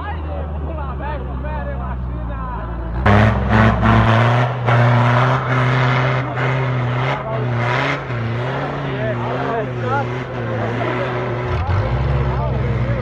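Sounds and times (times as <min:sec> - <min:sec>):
off-road vehicle engine driving past: 0:00.1 - 0:13.0.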